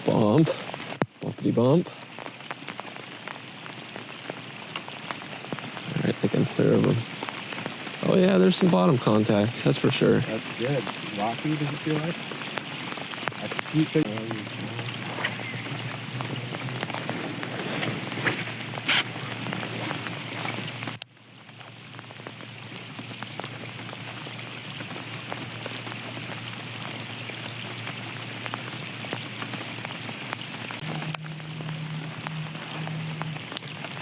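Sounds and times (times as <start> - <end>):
low steady hum: 0.0 - 34.0
rain falling: 0.0 - 34.0.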